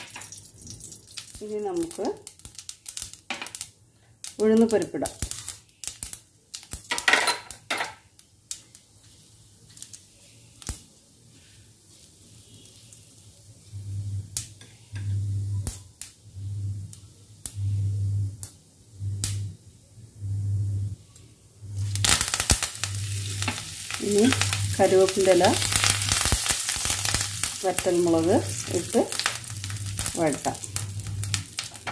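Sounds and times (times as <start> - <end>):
food sizzling in hot oil: 0.0 - 19.6, 21.6 - 31.9
low electrical hum: 0.0 - 31.9.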